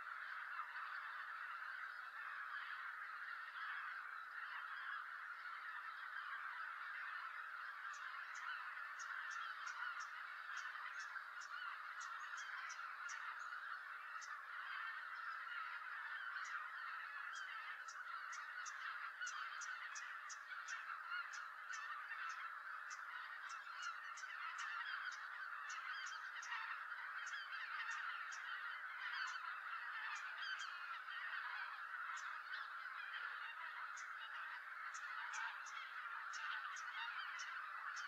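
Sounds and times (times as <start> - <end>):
geese honking: 0.0 - 38.0.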